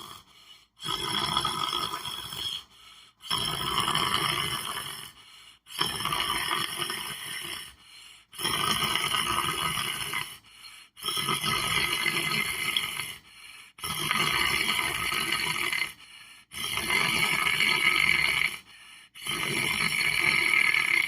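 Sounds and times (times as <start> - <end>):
person snoring: 0.0 - 21.0.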